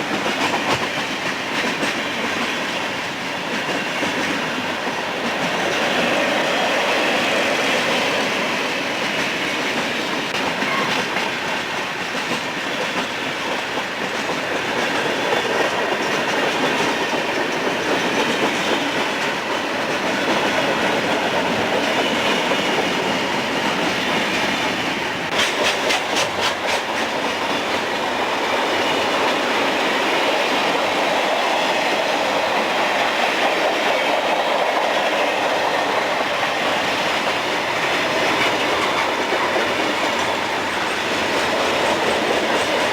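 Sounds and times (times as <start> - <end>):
train wheels clacking on rails: 0.0 - 42.9.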